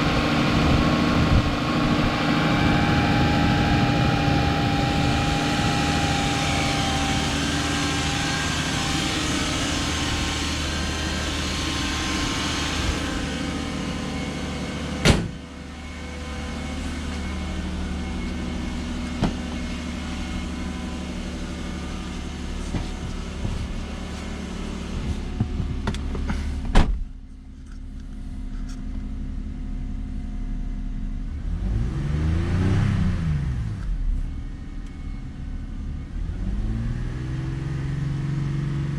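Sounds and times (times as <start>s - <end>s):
car engine idling: 0.0s - 31.7s.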